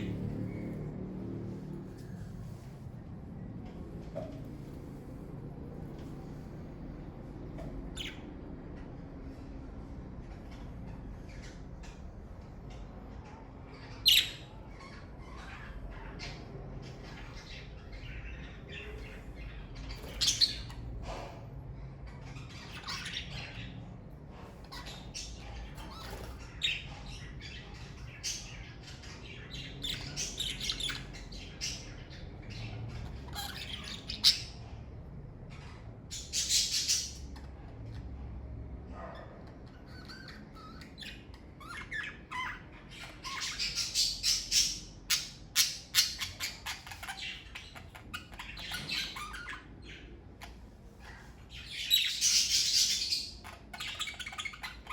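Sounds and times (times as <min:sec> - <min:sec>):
budgerigars chirping and chattering: 0:00.0 - 0:02.8, 0:06.0 - 0:09.5, 0:10.2 - 0:54.9.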